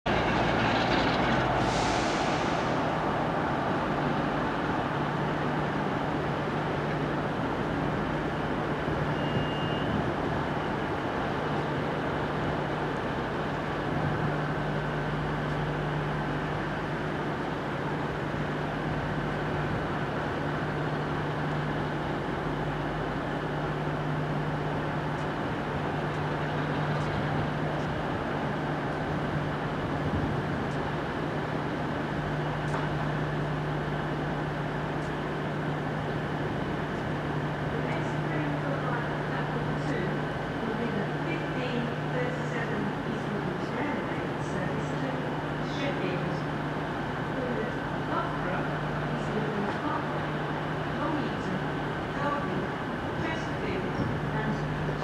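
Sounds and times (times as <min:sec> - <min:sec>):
diesel locomotive engine droning: 0:00.0 - 0:55.0.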